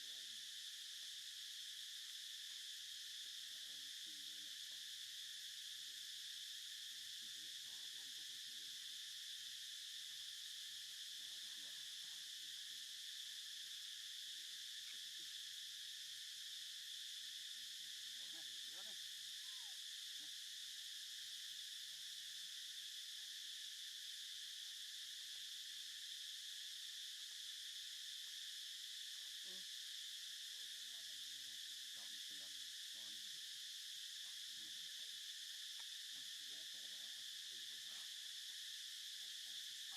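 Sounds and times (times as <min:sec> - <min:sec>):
insects chorus drone: 0:00.0 - 0:39.9.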